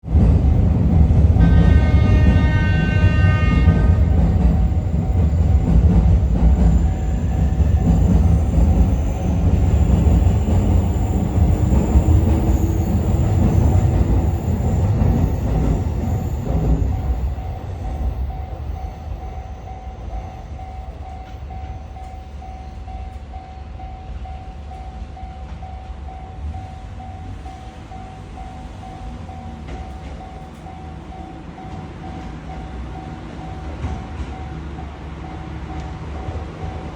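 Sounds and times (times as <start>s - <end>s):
train wheels rumbling on rails: 0.0s - 36.9s.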